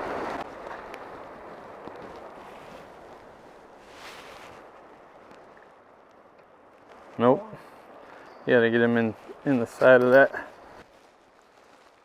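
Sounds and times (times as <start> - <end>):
steady outdoor rushing noise: 0.0 - 11.1.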